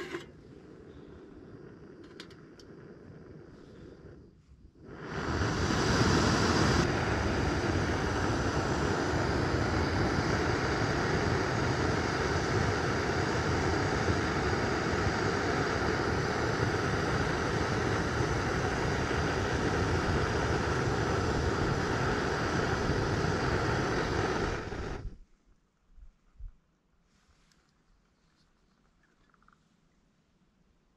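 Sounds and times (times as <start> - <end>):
gas stove burner hissing: 0.0 - 25.2.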